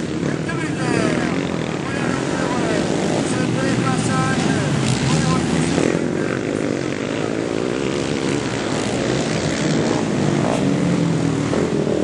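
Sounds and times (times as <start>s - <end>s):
quad bike engines revving: 0.0s - 12.0s.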